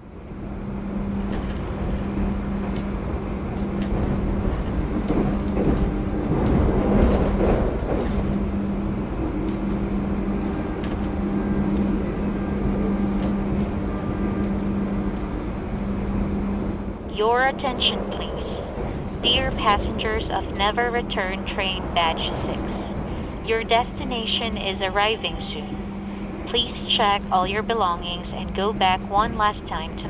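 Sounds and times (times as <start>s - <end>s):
train hum and rumble: 0.0s - 30.0s.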